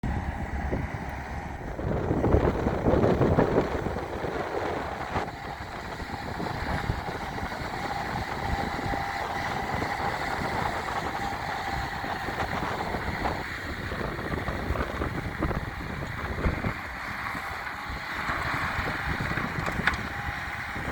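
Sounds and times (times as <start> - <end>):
diesel engine running: 0.0 - 20.9
faint steady whine: 0.0 - 20.9.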